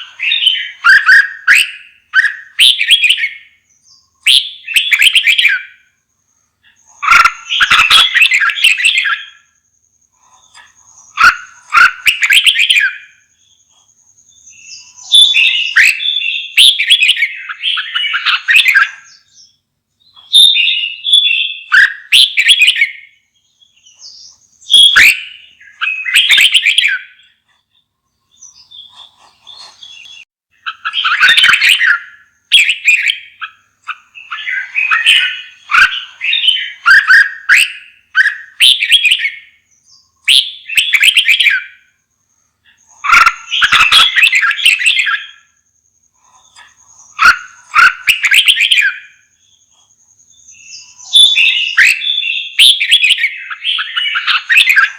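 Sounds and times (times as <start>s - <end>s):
bird singing warbled phrases: 0.0s - 54.9s.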